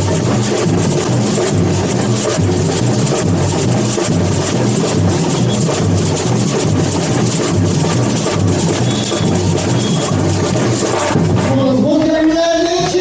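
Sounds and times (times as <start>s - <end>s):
bass drums pounding: 0.0s - 13.0s
samba drumming: 0.0s - 13.0s.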